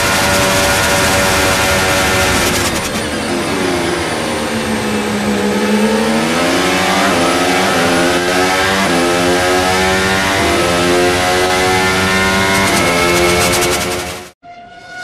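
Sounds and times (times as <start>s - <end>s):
racing car engine accelerating: 0.0s - 14.4s.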